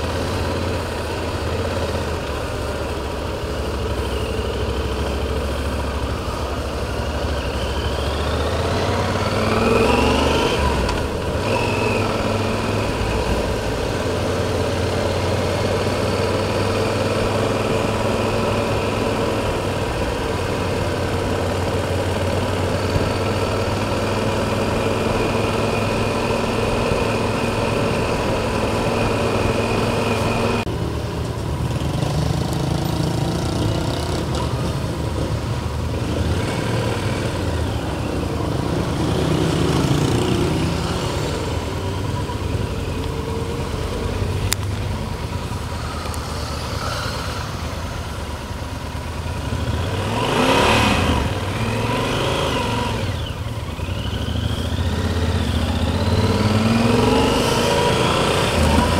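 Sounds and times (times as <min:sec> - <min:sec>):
motorcycle engine: 0:00.0 - 0:58.9.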